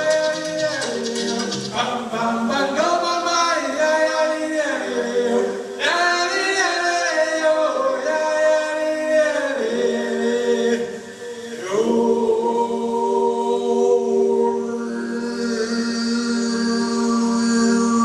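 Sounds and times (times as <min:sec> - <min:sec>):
voices singing held chords: 0:00.0 - 0:18.0.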